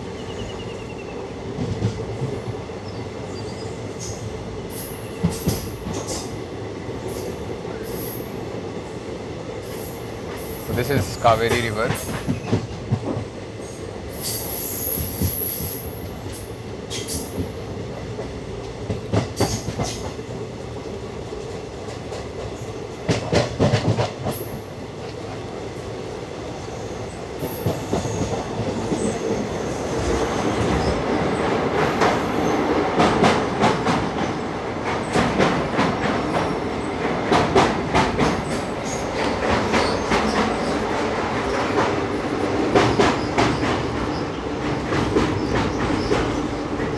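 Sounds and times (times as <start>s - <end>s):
train rumble: 0.0s - 46.9s.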